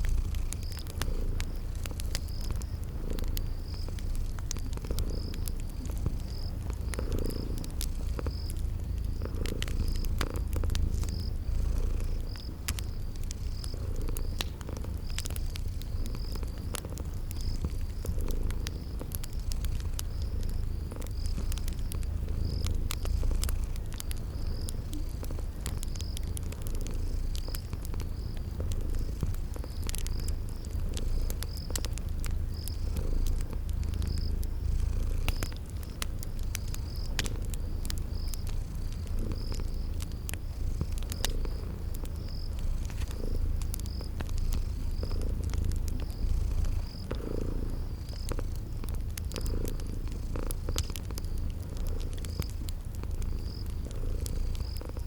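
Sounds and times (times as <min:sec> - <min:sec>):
cat purring: 0:00.0 - 0:55.0
crickets chirping: 0:00.0 - 0:55.0
fireplace crackling: 0:00.0 - 0:55.0.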